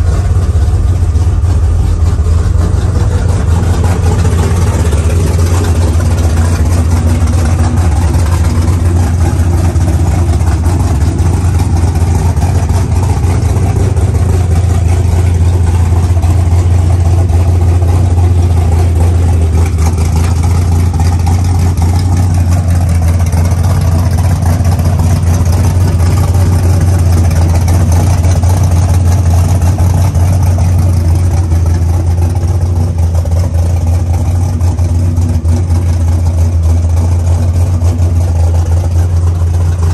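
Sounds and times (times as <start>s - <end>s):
engine idling with low drone: 0.0s - 39.9s.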